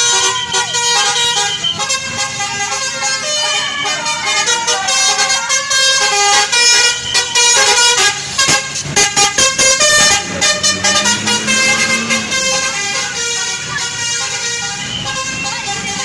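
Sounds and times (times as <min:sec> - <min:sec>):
musical bus horn playing a tune: 0:00.0 - 0:16.0
rapid short honks: 0:00.4 - 0:16.0.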